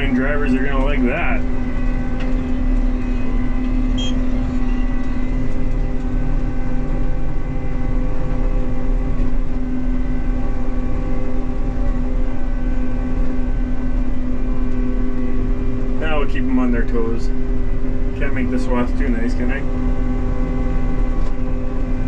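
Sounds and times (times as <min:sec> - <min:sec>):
farm machine hum: 0:00.0 - 0:22.0.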